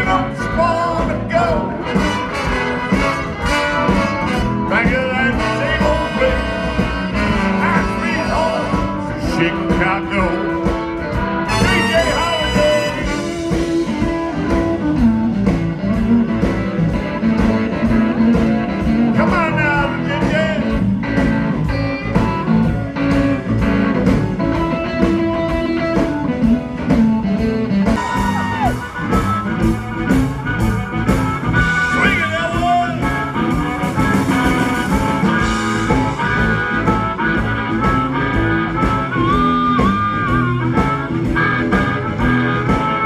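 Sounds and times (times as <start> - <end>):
blues band playing: 0.0 - 43.0
electric guitar bending notes: 0.0 - 43.0.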